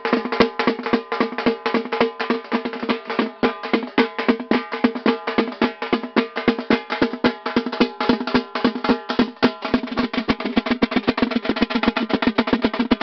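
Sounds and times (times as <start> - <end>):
rapid drumming: 0.0 - 13.0.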